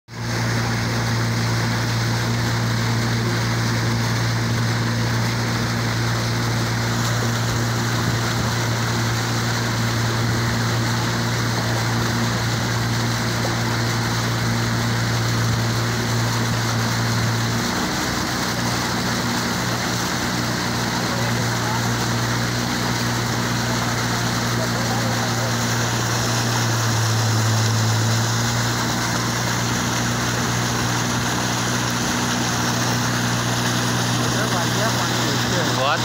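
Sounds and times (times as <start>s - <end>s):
engine humming steadily: 0.1s - 36.0s
rushing water: 0.1s - 36.0s.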